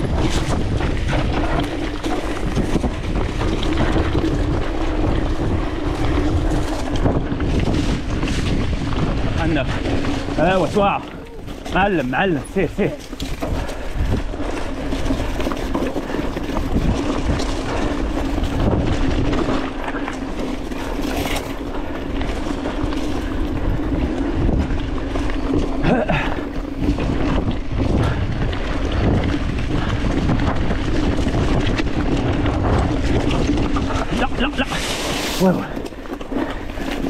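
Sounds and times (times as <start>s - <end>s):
bike rattling over bumps: 0.0s - 37.0s
tyre noise on dirt: 0.0s - 37.0s
wind buffeting microphone: 0.0s - 37.0s.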